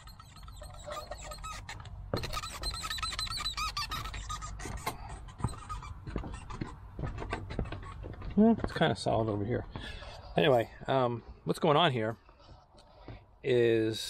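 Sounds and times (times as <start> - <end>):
wooden deck boards squeaking: 0.0 - 11.4, 12.1 - 13.4.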